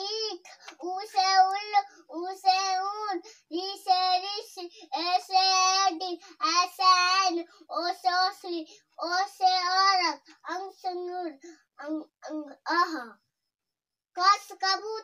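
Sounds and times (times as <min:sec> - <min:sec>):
child chanting sing-song: 0:00.0 - 0:13.2, 0:14.2 - 0:15.0.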